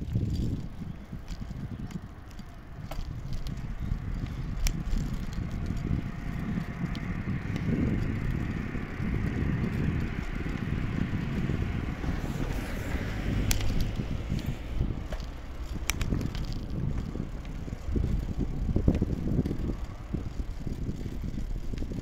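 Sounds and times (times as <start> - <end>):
bicycle tyres on tarmac: 0.0 - 22.0
wind rumbling on microphone: 0.0 - 22.0
sharp rattling clicks: 0.1 - 11.6, 13.3 - 22.0.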